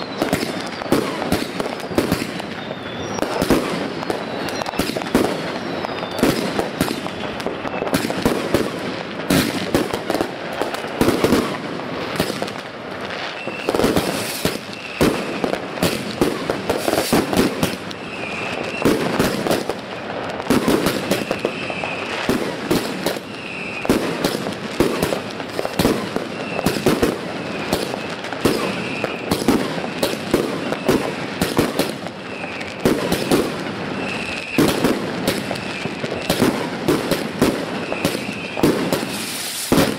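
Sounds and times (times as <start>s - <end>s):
fireworks banging: 0.0s - 39.9s.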